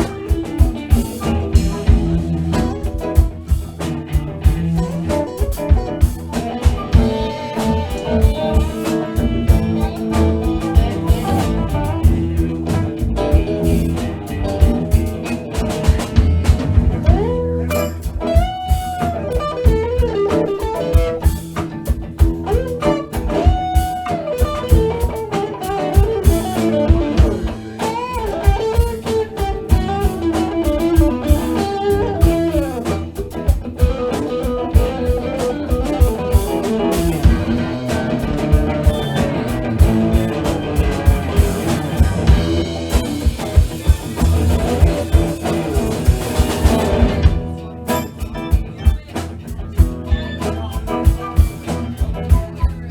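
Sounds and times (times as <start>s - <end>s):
blues guitar lead: 0.0s - 52.9s
drum kit beat: 0.0s - 52.9s.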